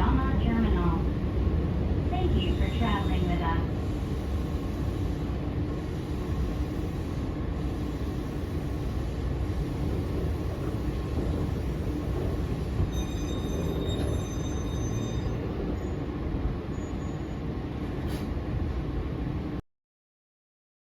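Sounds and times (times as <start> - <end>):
train rumbling: 0.0 - 19.6.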